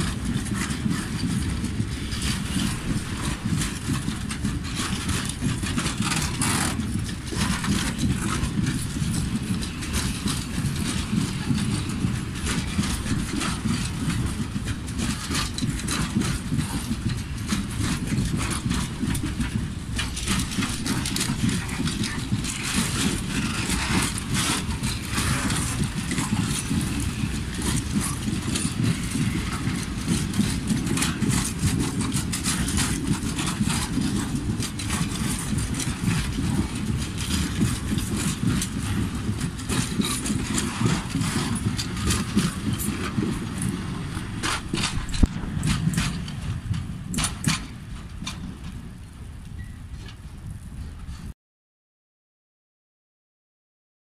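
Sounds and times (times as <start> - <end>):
freight train rolling past: 0.0 - 50.2
train wheels clicking and clacking: 0.0 - 51.3.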